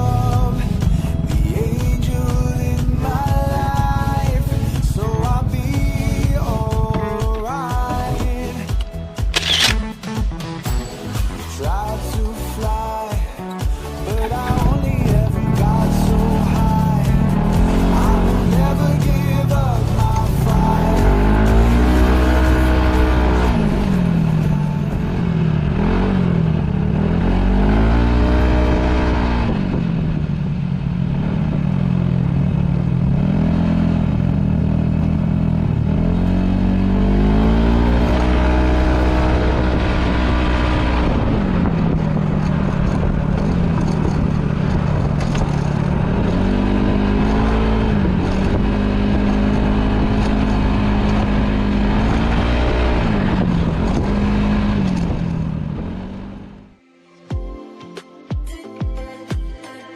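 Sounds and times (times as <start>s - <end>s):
scooter engine revving: 0.0s - 12.5s, 13.6s - 56.8s.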